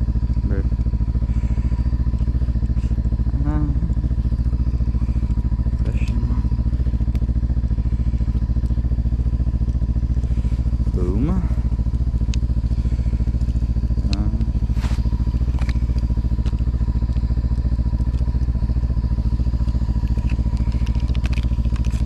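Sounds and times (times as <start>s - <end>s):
snowmobile engine idling: 0.0s - 22.0s.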